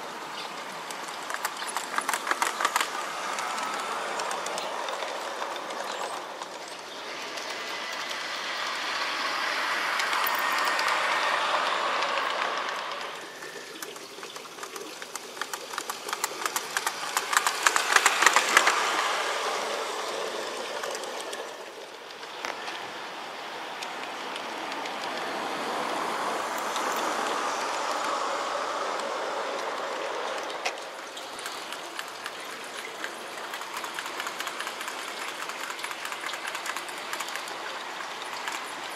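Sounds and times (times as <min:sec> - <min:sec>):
model train wheels clicking on rails: 0:00.0 - 0:38.9.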